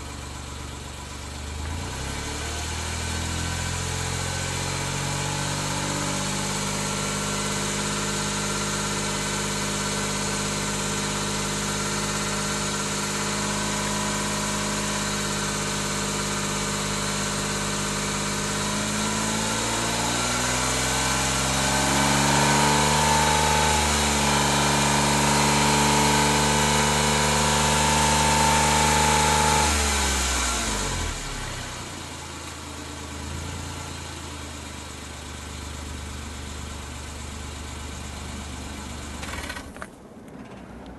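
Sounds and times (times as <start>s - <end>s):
engine exhaust idling and revving: 0.0s - 40.9s.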